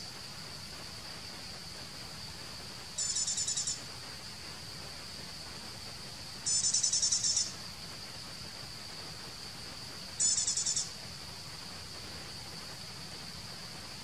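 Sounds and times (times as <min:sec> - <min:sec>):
high pulsed insect trill: 0:00.0 - 0:14.0
insects droning: 0:00.0 - 0:14.0.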